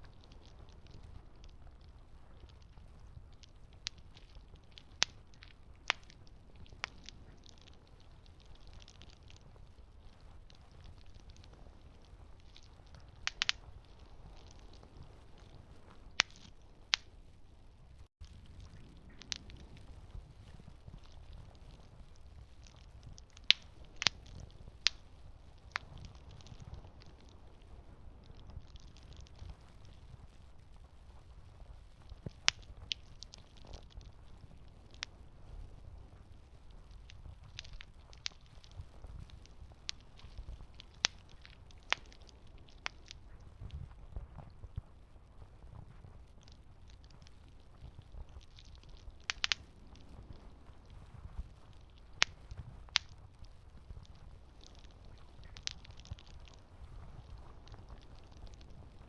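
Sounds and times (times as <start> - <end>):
wood popping: 0.0 - 17.2, 18.2 - 30.3, 32.0 - 43.8, 45.8 - 59.0
campfire crackling: 0.0 - 59.0
fire low rumble: 0.0 - 59.0.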